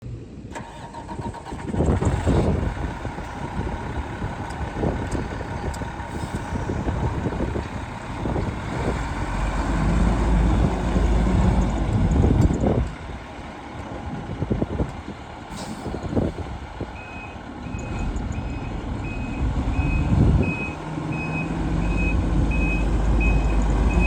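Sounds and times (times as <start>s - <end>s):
truck diesel engine running: 0.5s - 24.0s.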